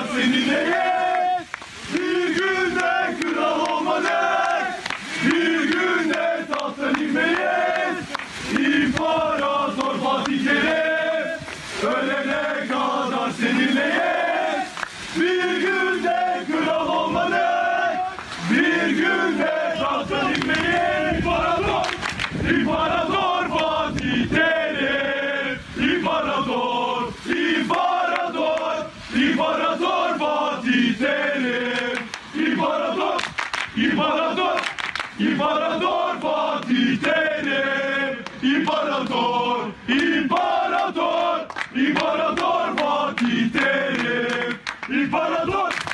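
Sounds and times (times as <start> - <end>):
crowd chanting: 0.0 - 45.9.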